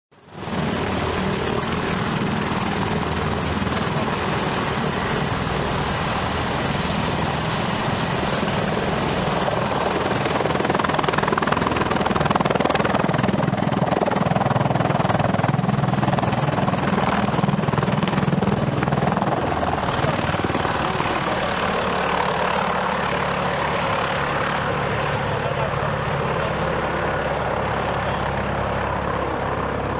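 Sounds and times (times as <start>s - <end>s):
helicopter rotor and turbine noise: 0.1s - 29.9s.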